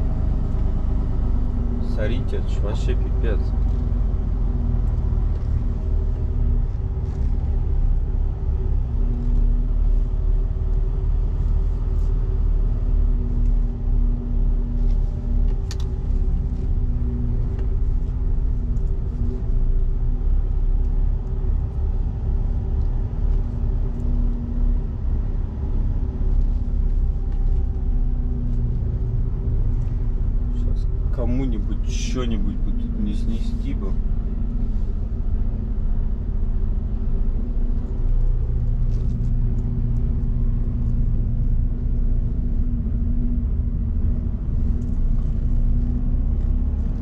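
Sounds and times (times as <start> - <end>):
diesel truck engine rumbling: 0.0 - 47.0.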